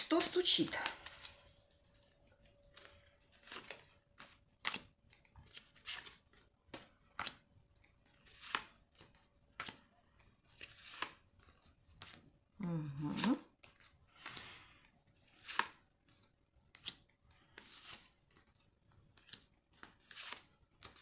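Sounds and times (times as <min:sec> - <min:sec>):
cards being shuffled: 0:00.1 - 0:12.2, 0:13.0 - 0:21.0.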